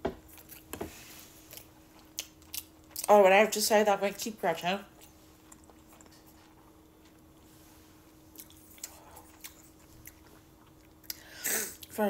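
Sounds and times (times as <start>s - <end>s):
faint steady hum: 0.0s - 12.0s
chewing fried chicken: 1.4s - 12.0s.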